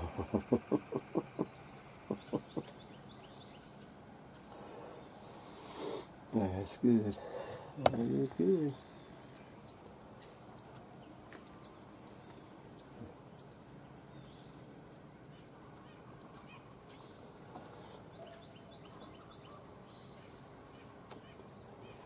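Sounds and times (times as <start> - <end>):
birds chirping: 0.0 - 22.0
steady background hiss: 0.0 - 22.0.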